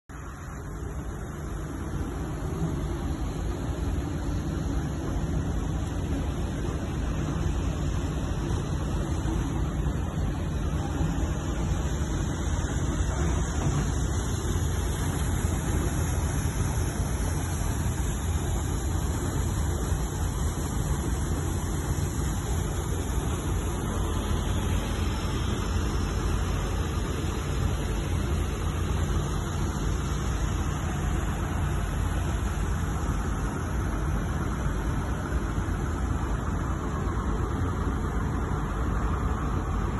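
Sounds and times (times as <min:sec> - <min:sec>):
diesel engine rumbling: 0:00.1 - 0:39.9.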